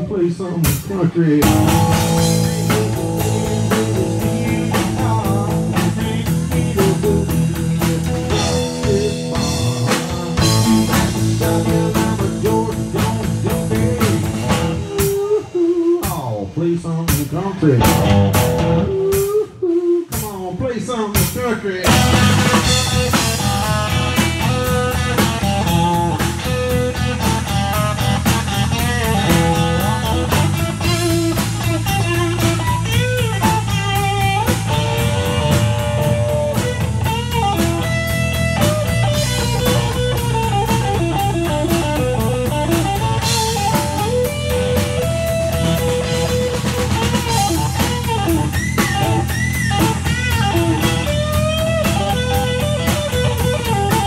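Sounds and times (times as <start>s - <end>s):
drum kit steady beat: 0.0s - 54.0s
electric guitar bending notes: 1.4s - 16.0s, 17.6s - 19.6s, 21.8s - 54.0s.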